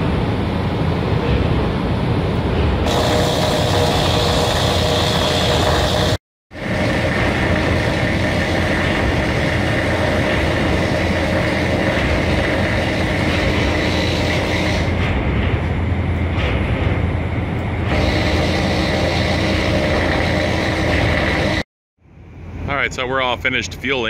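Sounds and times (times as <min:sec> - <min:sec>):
machinery whining tones: 0:00.0 - 0:21.6
ship machinery deep hum: 0:00.0 - 0:21.7.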